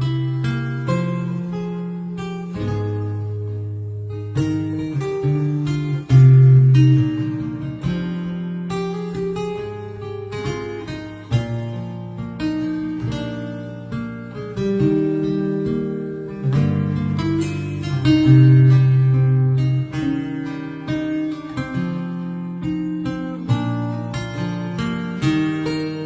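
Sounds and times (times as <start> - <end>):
acoustic guitar plucked notes: 0.0 - 26.0.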